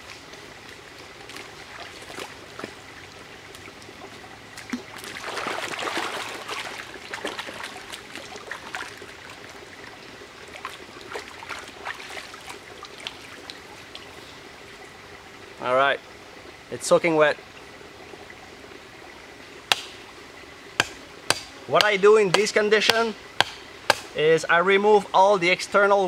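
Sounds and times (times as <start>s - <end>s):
stream trickling: 0.0s - 26.0s.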